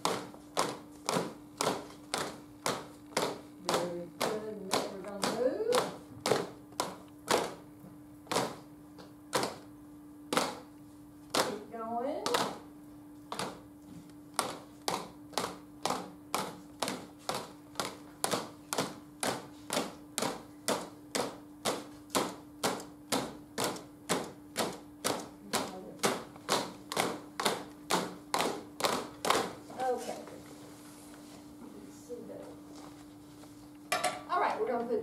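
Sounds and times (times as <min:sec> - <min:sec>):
group tapping a beat: 0:00.0 - 0:30.0
faint steady hum: 0:00.0 - 0:35.0.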